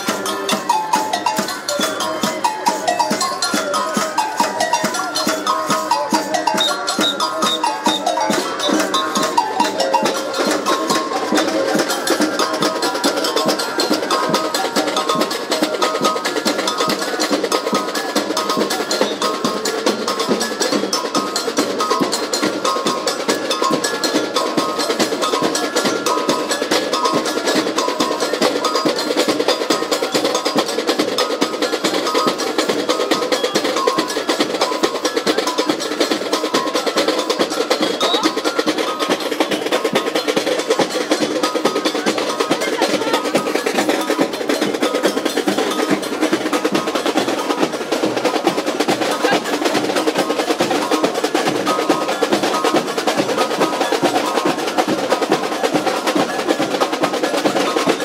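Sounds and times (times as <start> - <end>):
fast busy percussion: 0.0 - 58.0.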